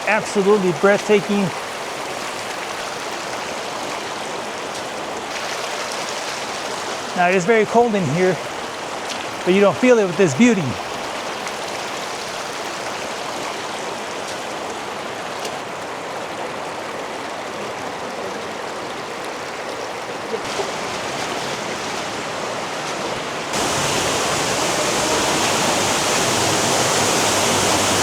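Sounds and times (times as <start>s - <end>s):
creek water rushing: 0.0s - 28.0s.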